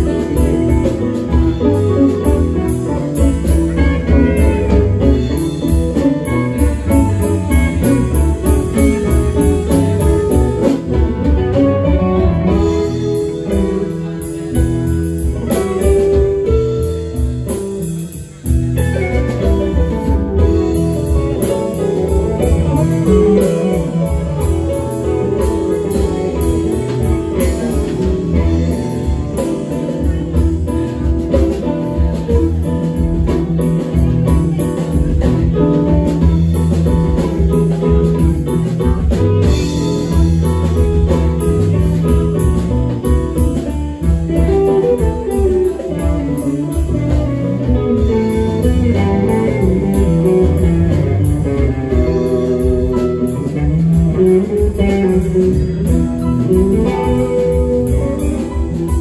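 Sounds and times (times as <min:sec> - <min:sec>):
drum kit: 0:00.0 - 0:59.0
electric bass: 0:00.0 - 0:59.0
electric guitars: 0:00.0 - 0:59.0
electric keyboard: 0:00.0 - 0:59.0.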